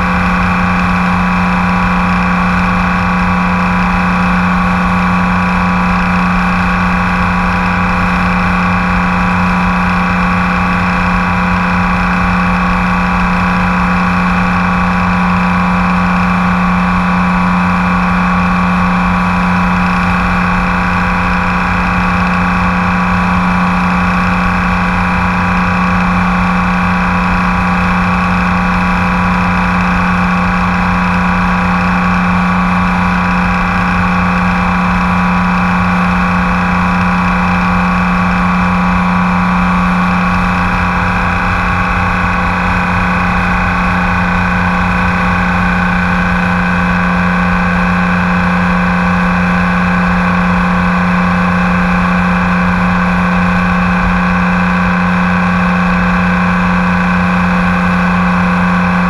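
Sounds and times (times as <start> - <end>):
motorcycle engine cruising: 0.0 - 59.0
wind and road noise: 0.0 - 59.0.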